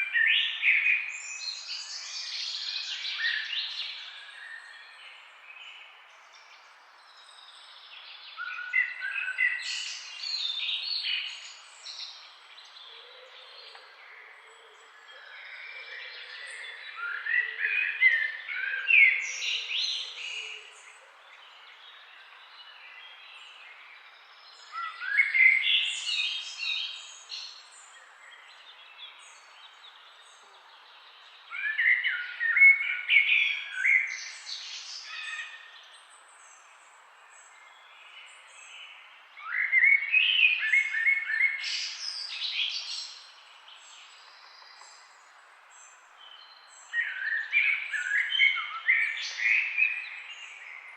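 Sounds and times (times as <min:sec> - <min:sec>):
faint background hiss: 0:00.0 - 0:50.9
songbird chirping and trilling: 0:00.0 - 0:50.9.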